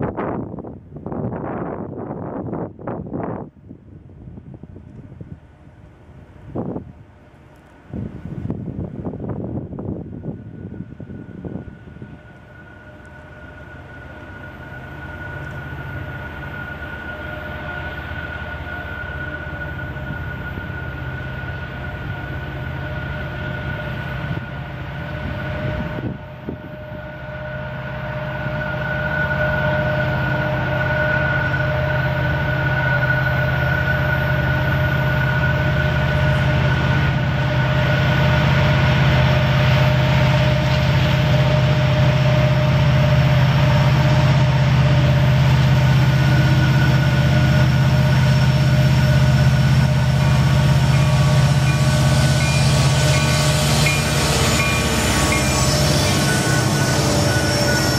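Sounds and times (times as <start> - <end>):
diesel locomotive engine rumble: 0.0 - 57.9
high-pitched whine: 10.2 - 57.9.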